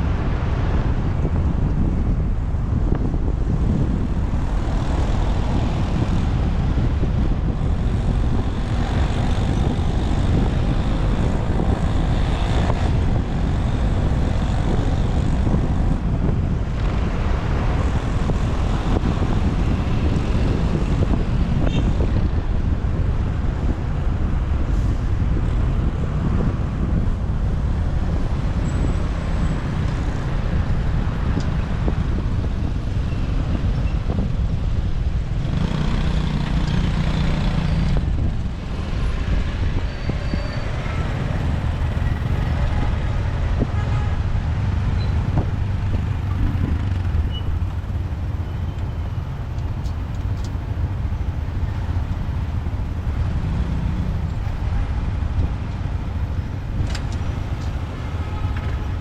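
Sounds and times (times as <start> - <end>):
engines rumbling: 0.0 - 59.0
road noise: 0.0 - 59.0.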